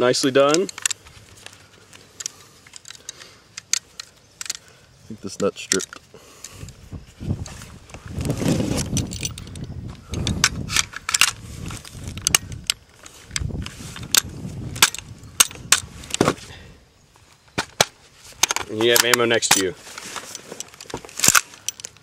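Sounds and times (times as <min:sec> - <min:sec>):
metal clicks and rattles: 0:00.0 - 0:04.7, 0:05.3 - 0:06.8, 0:08.7 - 0:16.3, 0:17.6 - 0:22.0.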